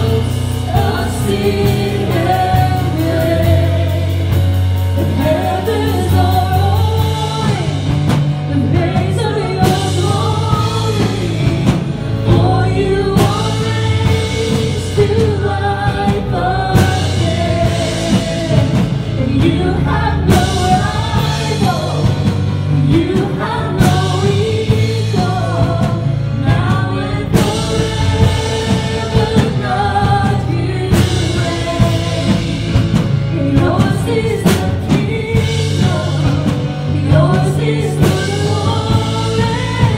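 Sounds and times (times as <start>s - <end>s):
drum kit: 0.0s - 39.9s
woman singing: 5.0s - 39.9s.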